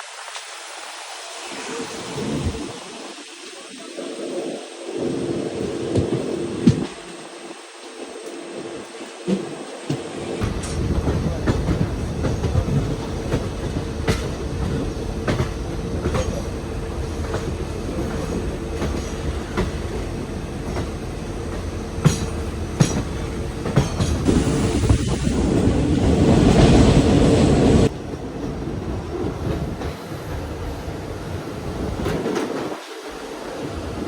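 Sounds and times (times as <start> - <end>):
passenger train running: 0.0 - 34.0.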